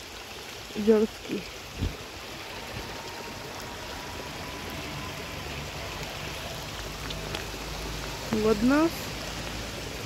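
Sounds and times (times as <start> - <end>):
stream running over stones: 0.0 - 10.0.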